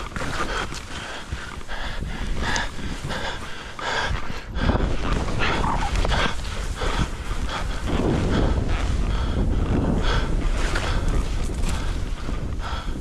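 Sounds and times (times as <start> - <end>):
skis scraping over snow: 0.0 - 13.0
wind rumble on microphone: 0.0 - 13.0.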